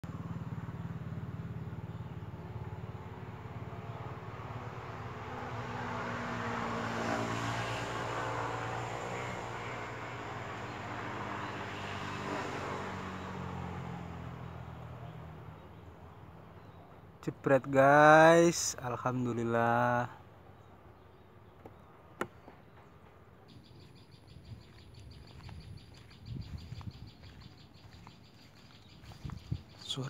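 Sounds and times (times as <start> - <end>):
engine passing by: 0.0 - 17.7, 18.8 - 30.0.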